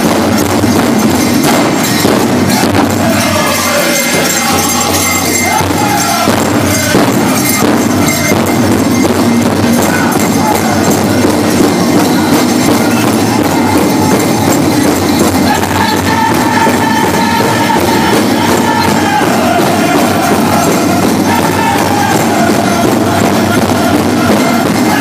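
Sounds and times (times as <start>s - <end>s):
group singing: 0.0s - 25.0s
jingling bells: 0.0s - 25.0s
large drum beating: 0.0s - 25.0s.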